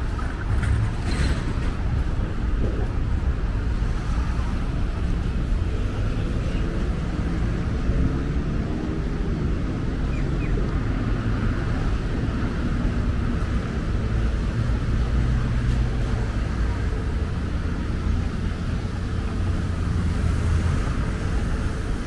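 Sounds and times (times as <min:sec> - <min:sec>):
heavy truck engine: 0:00.0 - 0:22.0
low rumble of traffic: 0:00.0 - 0:22.0.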